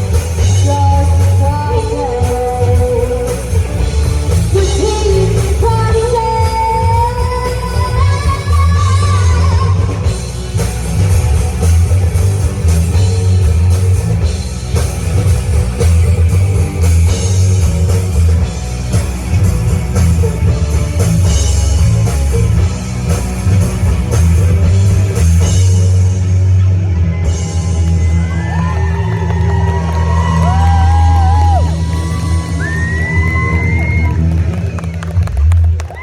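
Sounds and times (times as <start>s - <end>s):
live rock band instrumental: 0.0s - 36.0s.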